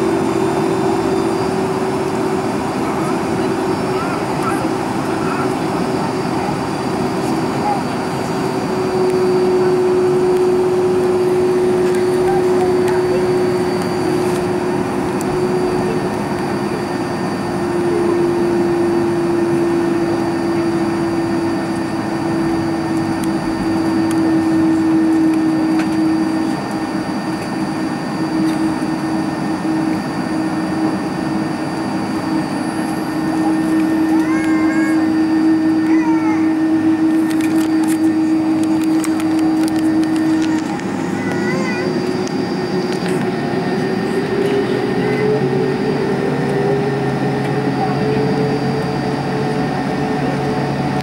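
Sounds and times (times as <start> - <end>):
jet engines heard inside cabin: 0.0 - 51.0.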